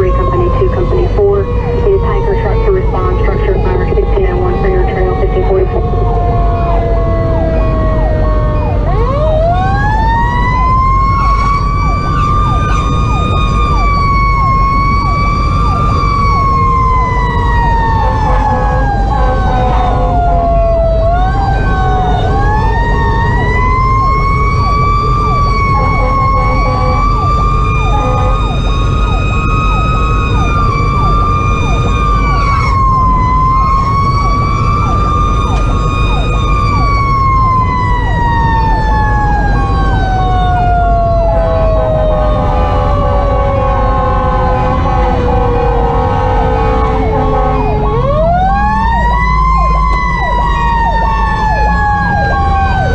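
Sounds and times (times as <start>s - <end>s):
diesel engine: 0.0s - 52.9s
road rumble: 0.0s - 52.9s.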